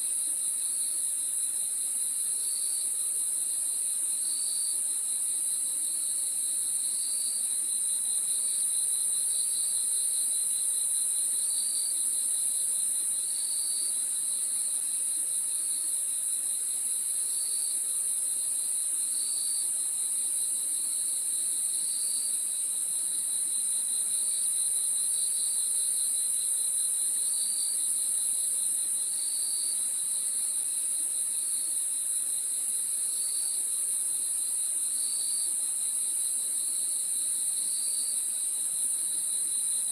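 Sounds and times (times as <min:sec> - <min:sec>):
lower cricket chirp: 0:00.0 - 0:39.9.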